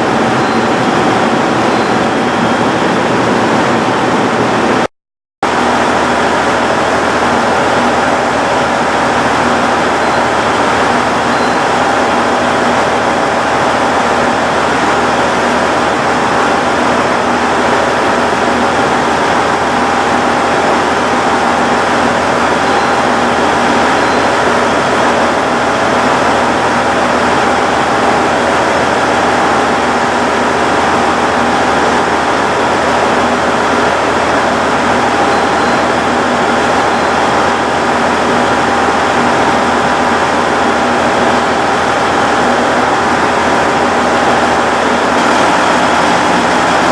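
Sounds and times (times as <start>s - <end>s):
diesel train engine humming: 0.0s - 4.8s, 5.5s - 46.9s.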